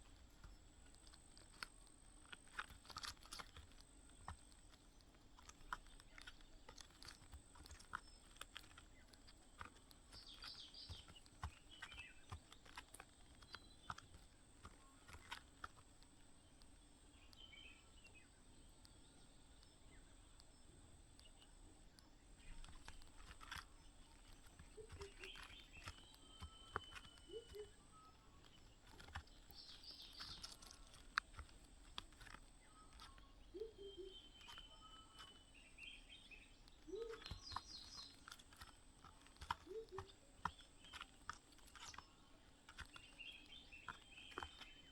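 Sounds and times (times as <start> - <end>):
faint bird chirps: 0.0 - 44.9
small clicks and ticks: 0.0 - 44.9.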